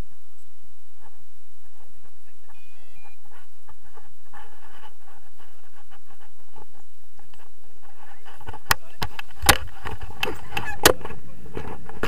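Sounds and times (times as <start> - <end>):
handling noise rustling: 0.0 - 12.0
wind buffeting microphone: 0.0 - 12.0.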